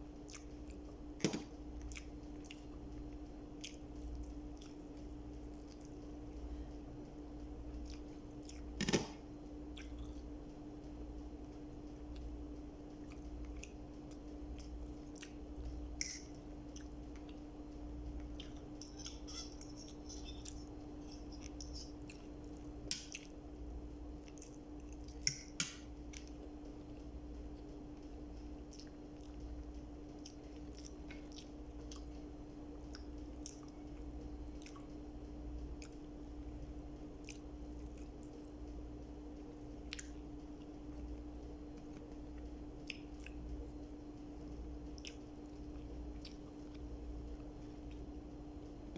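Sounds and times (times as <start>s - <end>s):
steady low hum: 0.0s - 48.9s
chewing and crunching: 0.1s - 6.7s, 7.7s - 8.8s, 9.7s - 10.4s, 11.8s - 38.8s, 39.8s - 43.9s, 44.8s - 48.9s.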